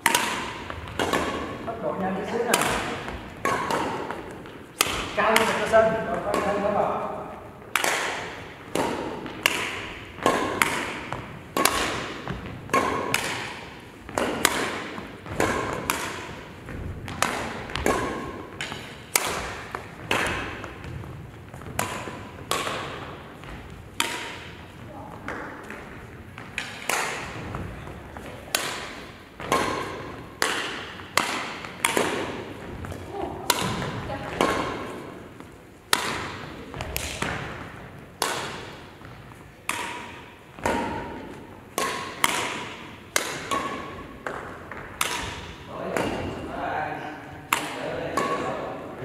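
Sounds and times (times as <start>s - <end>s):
rackets hitting shuttlecock: 0.0s - 46.6s, 47.2s - 49.0s.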